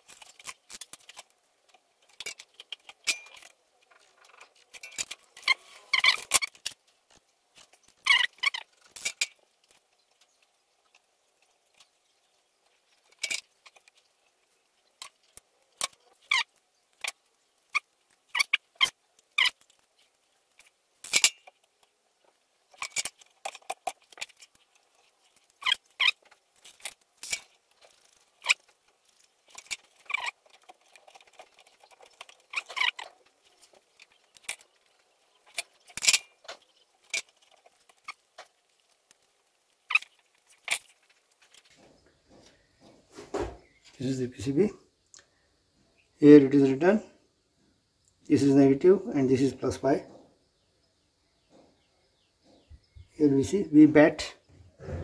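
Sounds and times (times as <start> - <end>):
wires rustling: 0.0 - 45.2.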